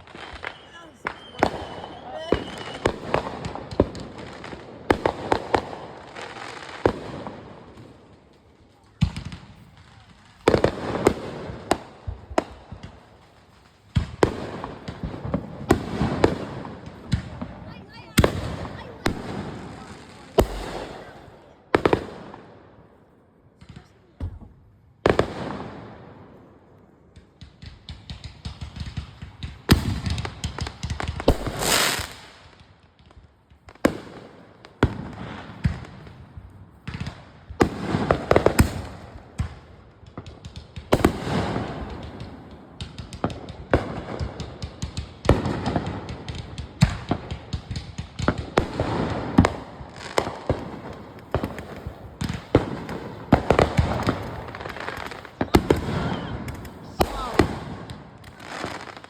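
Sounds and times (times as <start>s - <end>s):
firework bangs: 0.0s - 22.7s, 27.2s - 32.6s, 33.6s - 59.0s
fireworks crackling: 0.0s - 22.7s, 27.1s - 59.0s.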